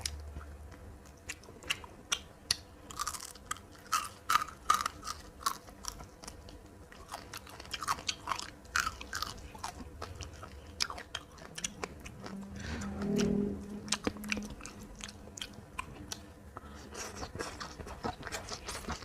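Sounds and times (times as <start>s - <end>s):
person chewing crunchy food: 0.0s - 12.4s, 13.9s - 19.0s.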